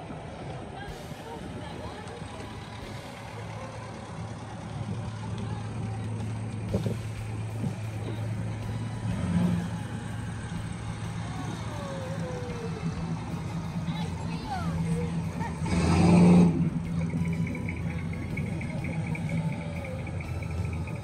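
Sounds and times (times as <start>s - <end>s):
car engines in slow traffic: 0.0s - 21.0s
car passing: 0.0s - 21.0s.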